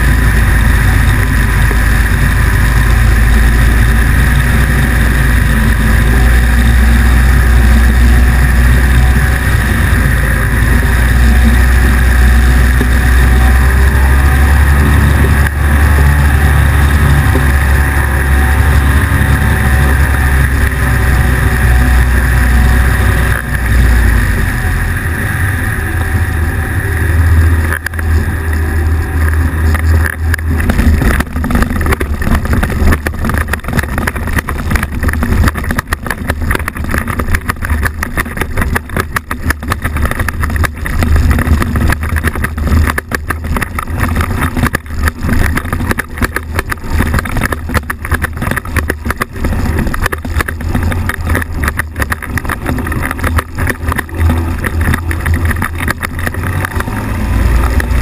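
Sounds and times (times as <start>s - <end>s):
microlight engine drone: 0.0s - 58.0s
wind buffeting microphone: 0.0s - 58.0s.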